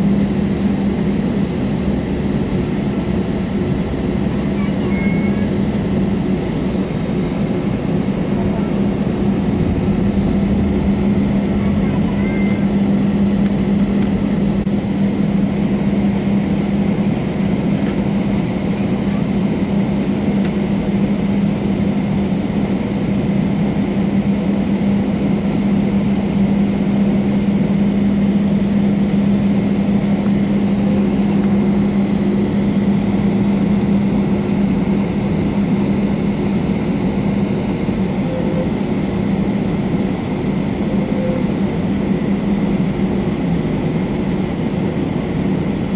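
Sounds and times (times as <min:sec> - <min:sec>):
aircraft engine drone in cabin: 0:00.0 - 0:45.9.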